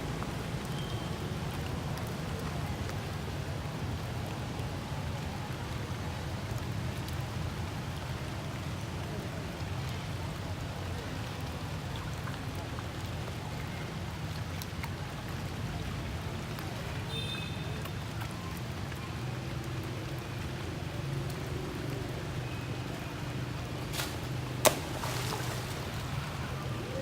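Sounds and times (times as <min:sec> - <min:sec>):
rain: 0:00.0 - 0:27.0
trickling water: 0:00.0 - 0:27.0.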